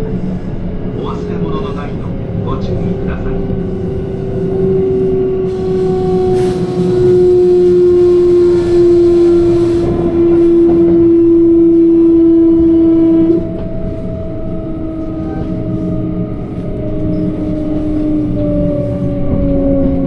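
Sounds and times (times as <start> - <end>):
train running gear rumble: 0.0 - 20.0
electric train motors whining: 3.2 - 20.0.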